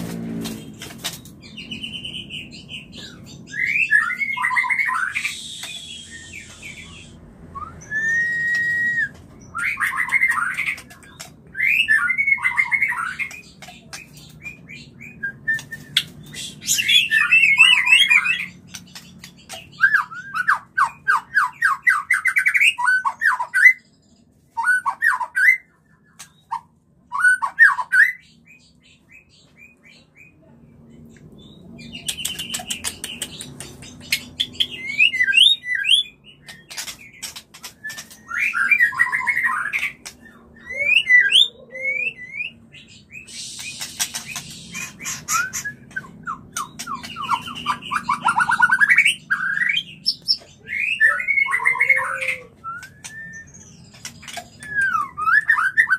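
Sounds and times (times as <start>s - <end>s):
birds chattering and clicking: 0.0s - 55.9s.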